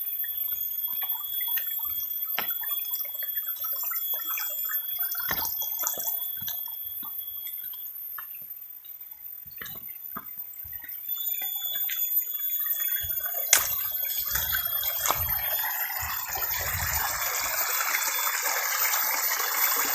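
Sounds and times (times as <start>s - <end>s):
stream water trickling: 0.0s - 19.9s.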